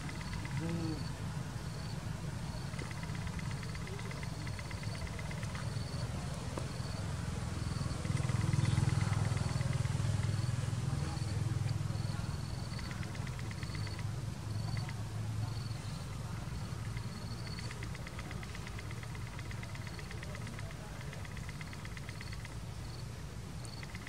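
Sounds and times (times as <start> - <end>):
insect chirps: 0.0 - 11.3, 11.9 - 24.0.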